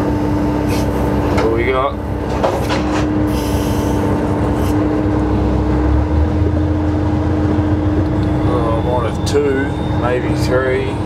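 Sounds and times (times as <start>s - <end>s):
boat engine hum and rumble: 0.0s - 11.0s.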